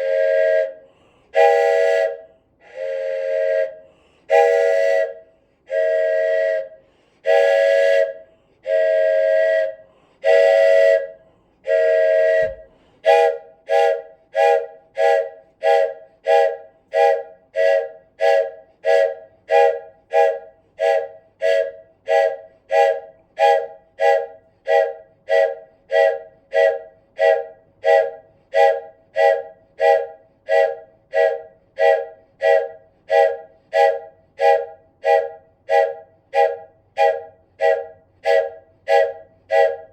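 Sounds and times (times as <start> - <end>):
wooden train whistle: 0.0 - 39.9.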